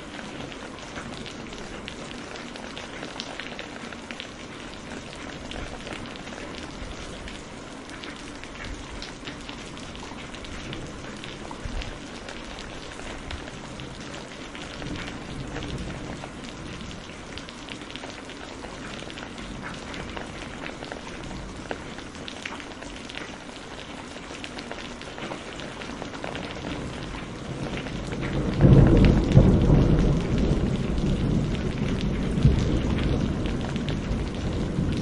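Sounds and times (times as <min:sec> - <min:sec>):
heavy rain pattering: 0:00.0 - 0:35.0.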